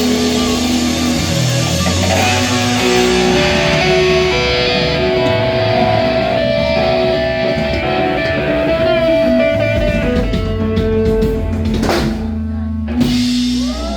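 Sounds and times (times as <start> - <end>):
electric guitar held notes: 0.0 - 13.9
low bass line: 0.0 - 13.9.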